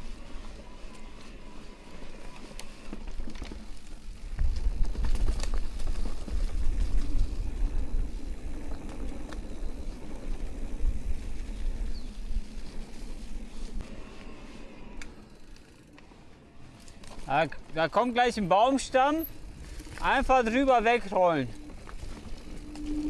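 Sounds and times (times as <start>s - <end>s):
bike rolling on dirt trail: 0.0s - 23.0s.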